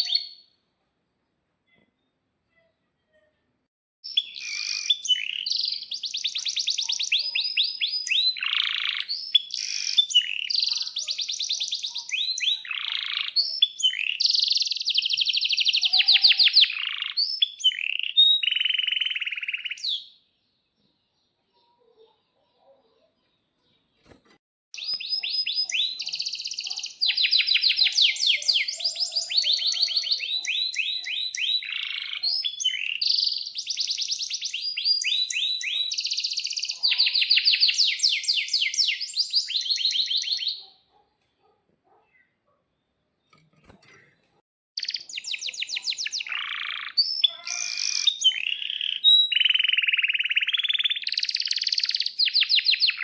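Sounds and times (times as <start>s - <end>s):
canary singing trills: 4.0s - 24.2s, 24.8s - 42.4s, 44.8s - 53.0s.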